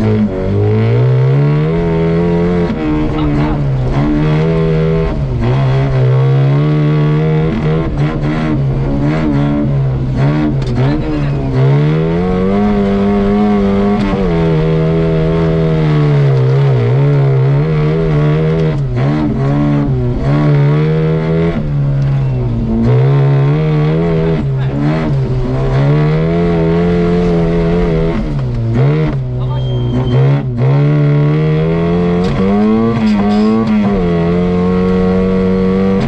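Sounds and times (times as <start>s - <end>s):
vehicle engine working hard: 0.0s - 36.0s.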